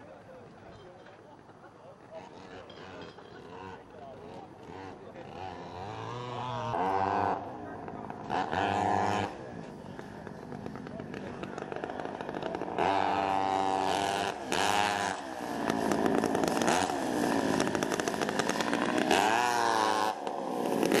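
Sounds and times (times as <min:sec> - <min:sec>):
two-stroke kart engines revving: 0:01.4 - 0:21.0.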